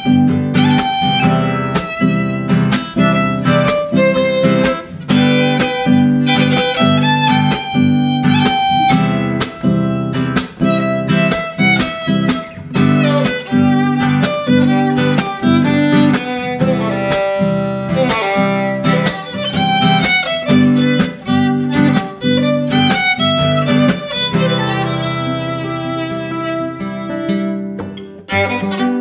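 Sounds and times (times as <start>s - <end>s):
bowed violin melody: 0.0s - 29.0s
classical guitar strumming: 0.0s - 29.0s.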